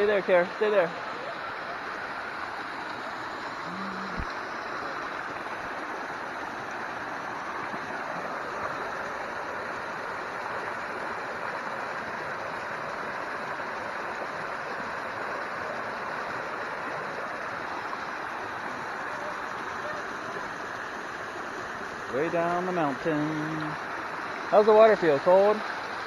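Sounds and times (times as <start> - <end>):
small waterfall splashing: 0.0 - 26.0.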